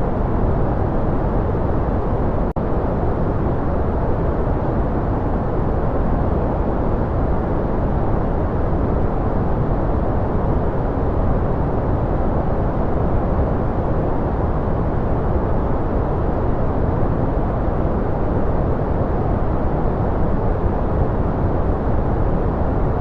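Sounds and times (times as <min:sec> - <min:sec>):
deep white noise rush: 0:00.0 - 0:23.0.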